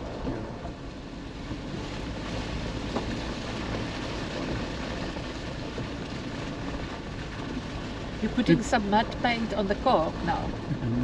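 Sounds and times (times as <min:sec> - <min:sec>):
car engine driving: 0:00.0 - 0:11.0.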